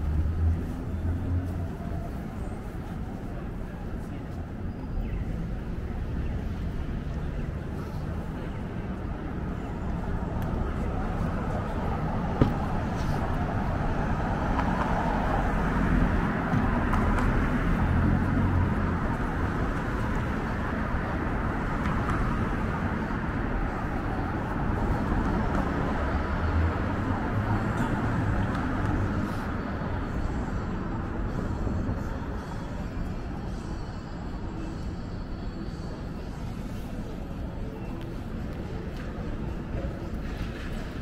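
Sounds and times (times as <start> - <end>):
busy street hum: 0.0 - 41.0
vehicles passing with low rumble: 0.0 - 41.0.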